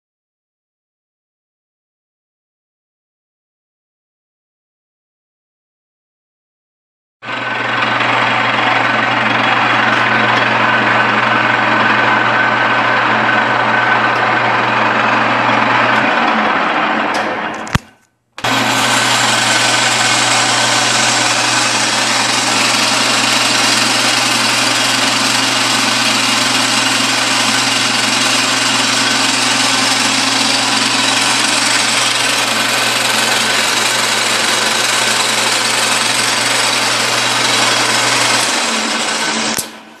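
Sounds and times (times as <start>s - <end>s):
lathe mechanical whir: 7.3s - 17.8s, 18.4s - 40.0s.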